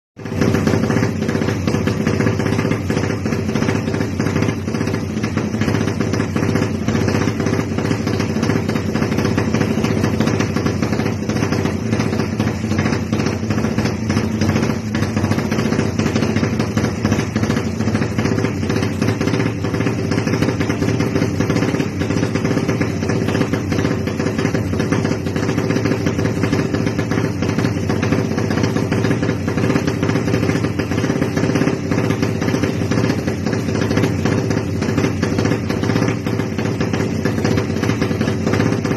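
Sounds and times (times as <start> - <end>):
motorcycle engine running steadily: 0.1 - 38.9.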